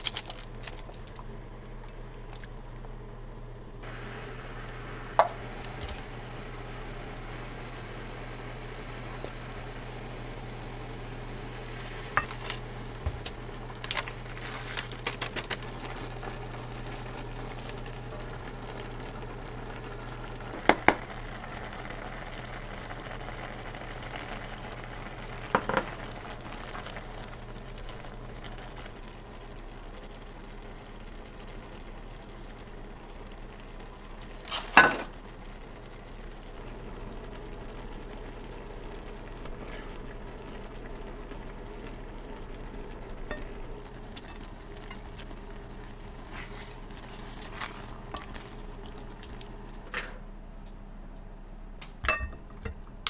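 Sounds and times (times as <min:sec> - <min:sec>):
low hum: 0:00.0 - 0:34.3, 0:35.0 - 0:53.0
food sizzling in a pan: 0:03.8 - 0:49.9.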